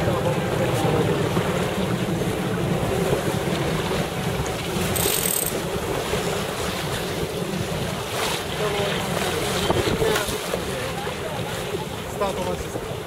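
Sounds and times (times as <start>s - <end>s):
water rushing past hull: 0.0s - 13.0s
wind buffeting microphone: 0.0s - 13.0s.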